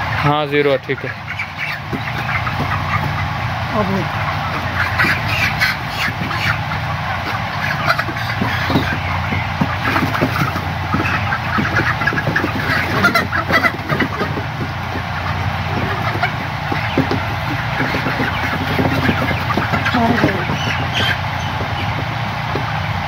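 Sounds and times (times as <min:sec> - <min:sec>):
chickens clucking and chirping: 0:00.0 - 0:23.0.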